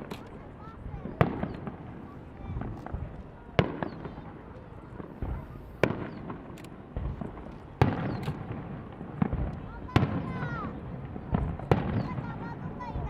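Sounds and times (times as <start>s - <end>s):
fireworks bangs: 0.0s - 13.0s
low fireworks rumble: 0.0s - 13.0s
small fireworks pops: 0.0s - 13.0s.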